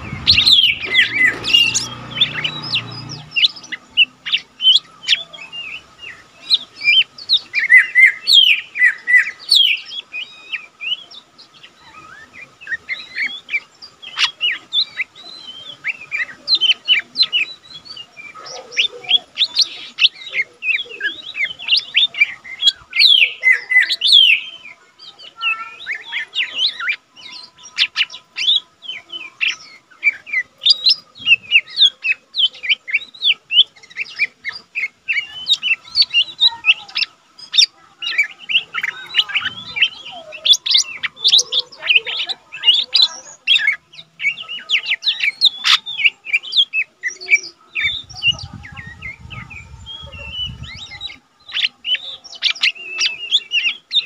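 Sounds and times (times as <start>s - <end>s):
bird singing chirps and whistles: 0.0s - 54.0s.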